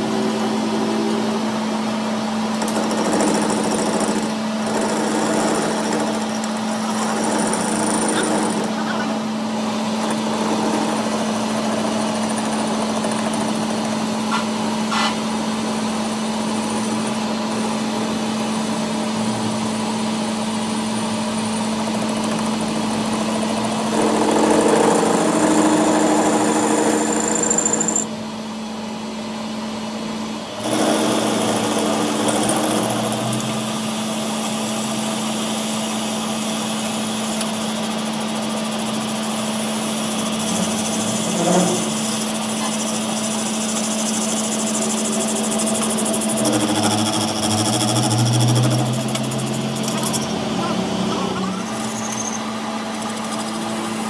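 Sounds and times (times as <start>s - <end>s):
workshop machine motor hum: 5.4s - 54.0s.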